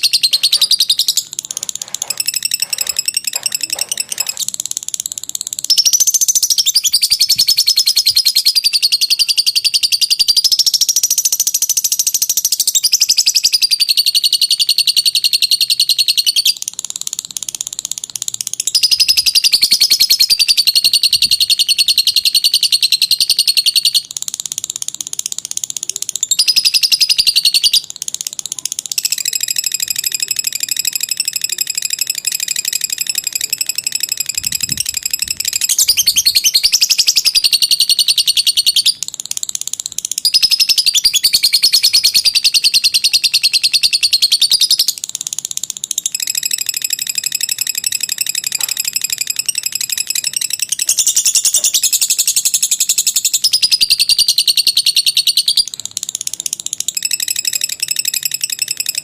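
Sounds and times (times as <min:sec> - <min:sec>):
lovebird chattering trill: 0:00.0 - 0:59.0.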